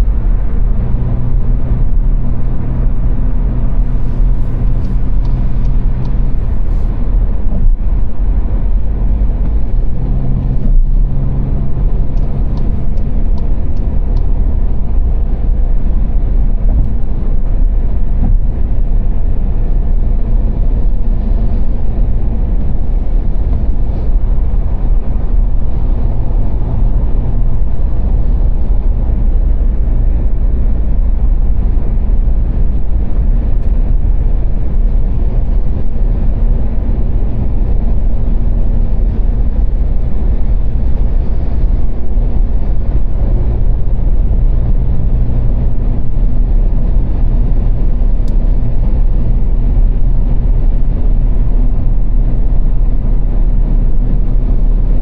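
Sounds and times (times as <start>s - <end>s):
faint engine hum: 0.0s - 55.0s
tyre and road noise: 0.0s - 55.0s.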